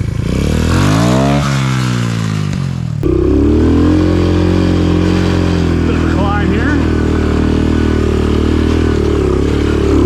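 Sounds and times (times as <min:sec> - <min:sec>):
trail bike engine: 0:00.0 - 0:10.0.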